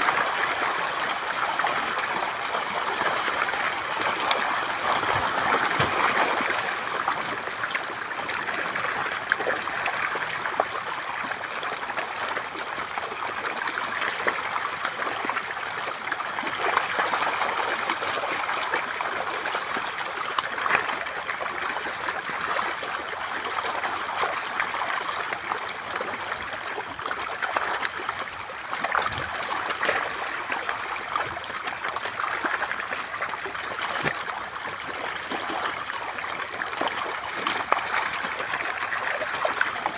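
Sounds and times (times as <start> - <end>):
fish splashing in shallow water: 0.0 - 39.9.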